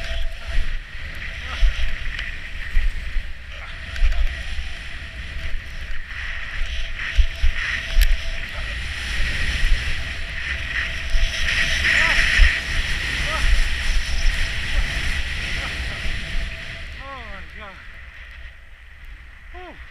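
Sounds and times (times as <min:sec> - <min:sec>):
skis hissing over snow: 0:00.0 - 0:17.8
wind buffeting microphone: 0:00.0 - 0:19.9.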